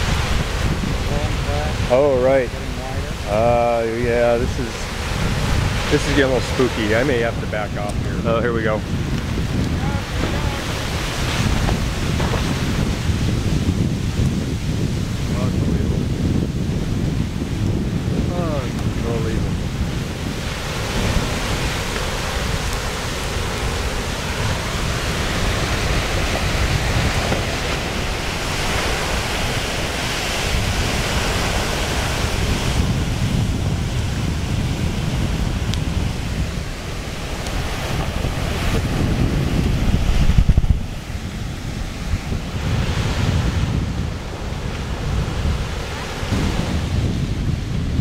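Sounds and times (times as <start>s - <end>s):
surf and steam rushing: 0.0s - 48.0s
wind rumbling on microphone: 0.0s - 48.0s.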